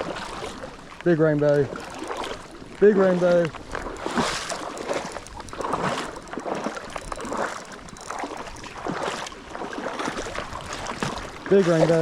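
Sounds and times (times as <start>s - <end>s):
creek water splashing: 0.0s - 12.0s.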